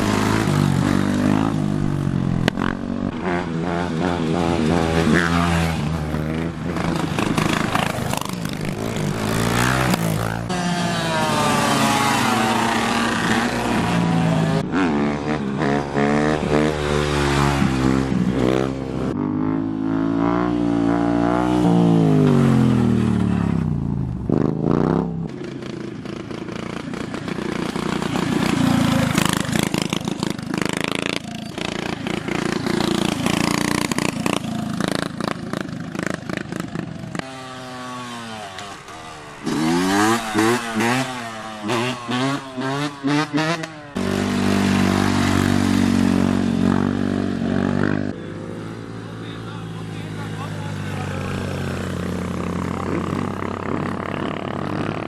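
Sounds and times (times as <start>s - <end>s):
small motorbike engines revving: 0.0s - 55.0s.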